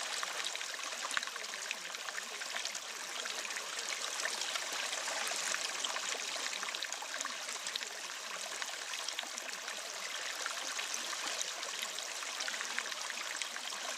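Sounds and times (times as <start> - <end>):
running water: 0.0 - 13.9.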